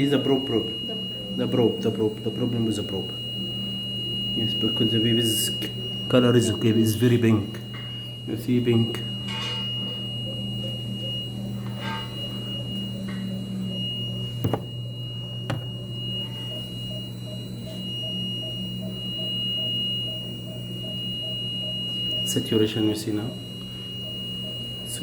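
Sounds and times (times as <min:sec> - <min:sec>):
low electrical hum: 0:00.0 - 0:25.0
thin high-pitched whine: 0:00.0 - 0:25.0.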